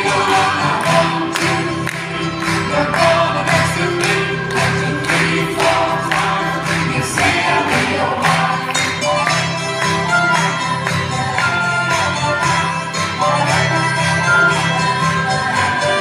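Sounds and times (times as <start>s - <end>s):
acoustic guitar: 0.0s - 16.0s
backing voices: 0.0s - 16.0s.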